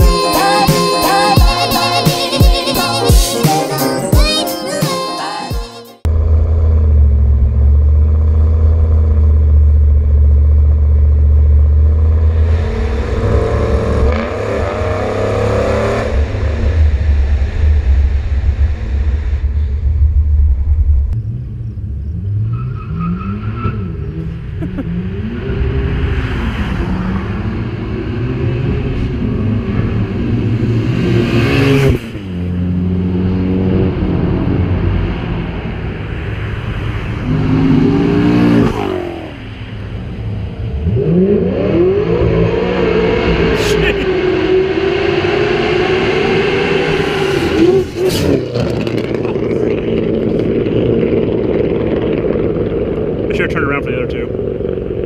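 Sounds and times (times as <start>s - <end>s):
car engine revving and cruising: 6.0s - 55.0s.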